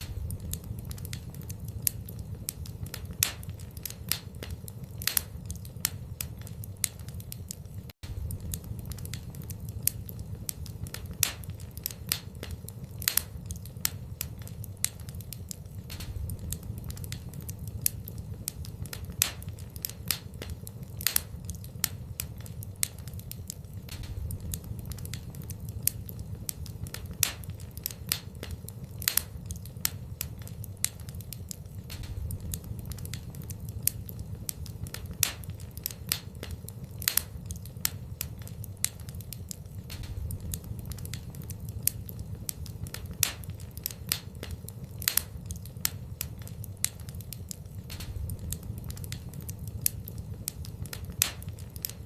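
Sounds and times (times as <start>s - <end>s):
fire crackling in a fireplace: 0.0s - 52.0s.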